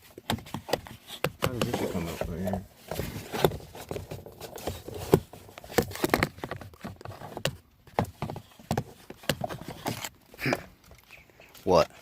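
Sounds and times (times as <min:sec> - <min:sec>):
hands clicking and knocking parts: 0:00.0 - 0:02.3, 0:03.3 - 0:11.6.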